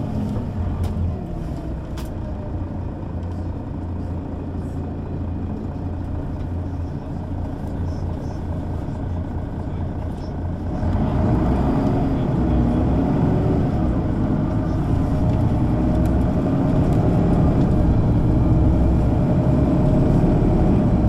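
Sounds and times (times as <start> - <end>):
bus engine accelerating: 0.0 - 21.0.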